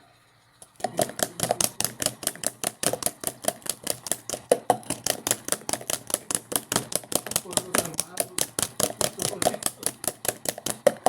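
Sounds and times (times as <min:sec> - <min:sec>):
clothes dryer clattering: 0:00.6 - 0:11.0.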